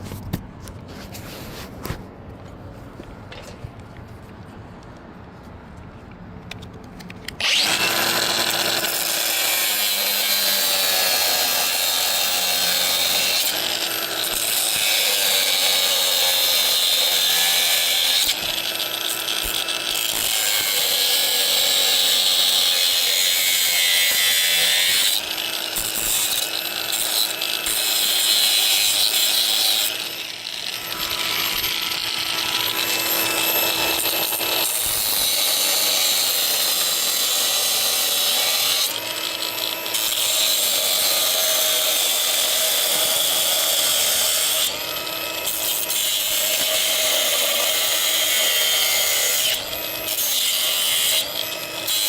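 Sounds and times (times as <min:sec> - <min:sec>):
power tool cutting: 0:07.4 - 0:52.0.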